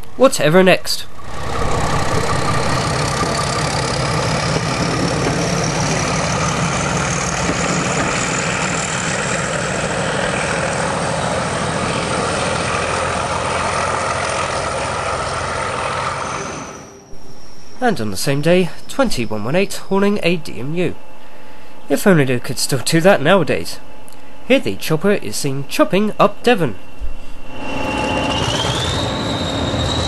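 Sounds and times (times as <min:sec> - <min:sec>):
diesel locomotive engine: 0:00.0 - 0:30.0
thin high whine: 0:00.0 - 0:30.0.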